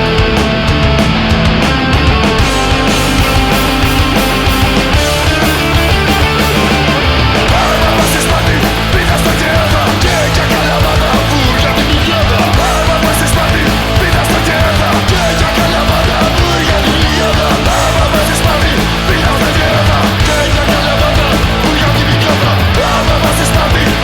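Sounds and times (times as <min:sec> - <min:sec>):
punk rock band playing: 0:00.0 - 0:24.0.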